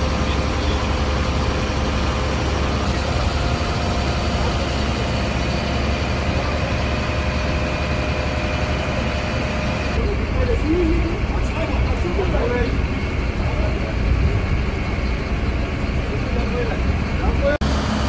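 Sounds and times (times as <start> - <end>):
fire engine idling: 0.0 - 18.0.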